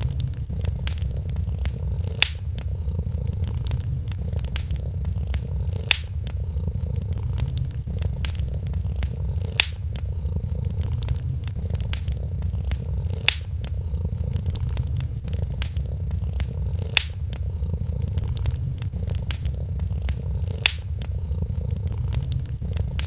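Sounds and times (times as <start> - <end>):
cat purring: 0.0 - 23.0
wood fire crackling: 0.0 - 23.0.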